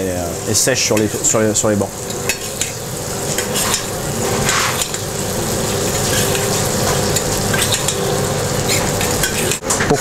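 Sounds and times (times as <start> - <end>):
scallops sizzling in butter: 0.0 - 9.6.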